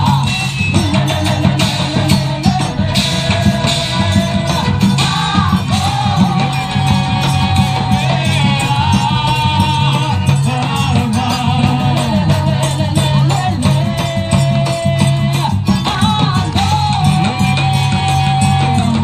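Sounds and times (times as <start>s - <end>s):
melody over percussive beat: 0.0s - 19.0s.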